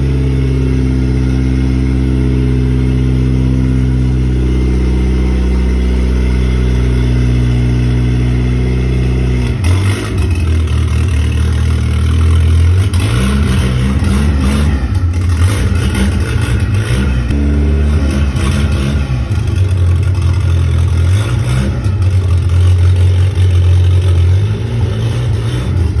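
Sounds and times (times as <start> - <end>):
pickup engine revving: 0.0 - 26.0.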